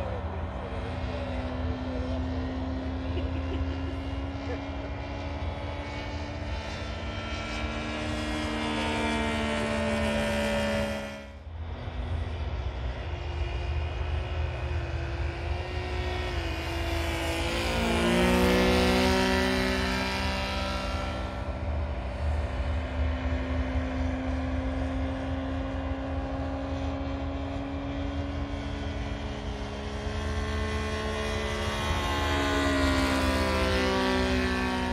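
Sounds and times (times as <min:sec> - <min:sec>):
model airplane engine in flight: 0:00.0 - 0:34.9.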